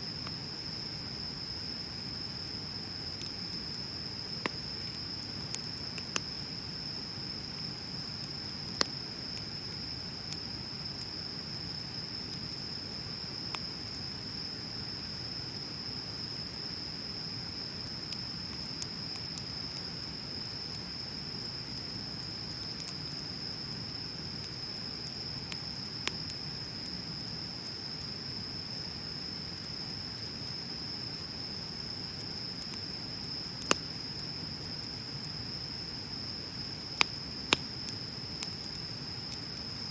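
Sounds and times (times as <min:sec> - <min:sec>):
fire pops and crackles: 0:00.1 - 0:15.6, 0:16.2 - 0:35.8, 0:36.4 - 0:39.9
bonfire burning: 0:00.1 - 0:39.9.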